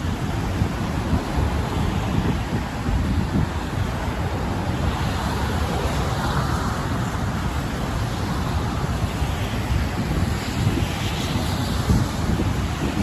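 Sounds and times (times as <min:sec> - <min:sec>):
traffic noise: 0:00.0 - 0:13.0
wind buffeting microphone: 0:00.0 - 0:13.0.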